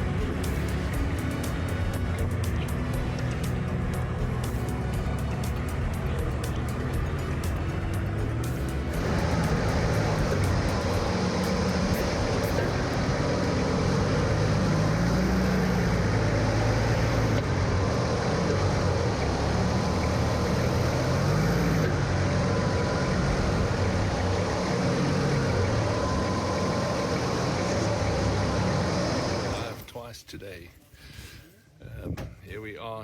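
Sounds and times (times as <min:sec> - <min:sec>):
off-road vehicle engine running: 0:00.0 - 0:29.8.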